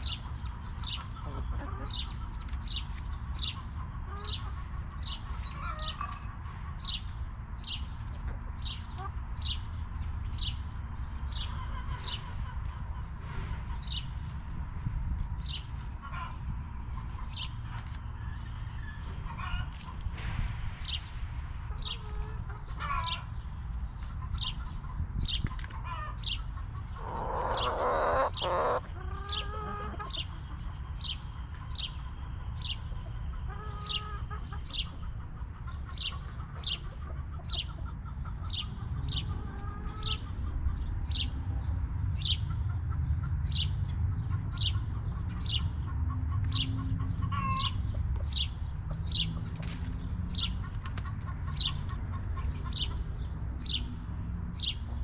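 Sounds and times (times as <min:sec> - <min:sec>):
hens clucking: 0:00.0 - 0:07.2, 0:11.3 - 0:20.2, 0:21.6 - 0:41.7, 0:42.3 - 0:53.8.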